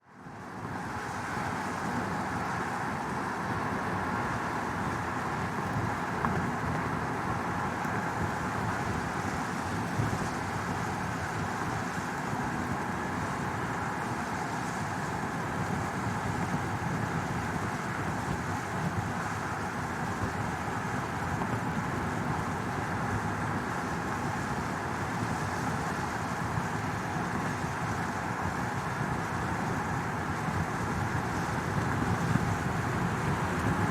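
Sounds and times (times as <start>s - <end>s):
car cabin rumble and hiss: 0.2s - 33.9s.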